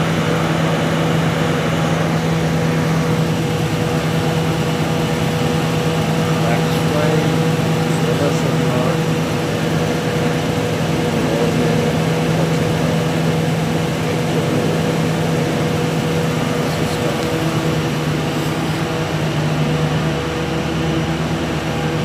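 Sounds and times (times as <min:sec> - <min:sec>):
generator engine drone: 0:00.0 - 0:22.0.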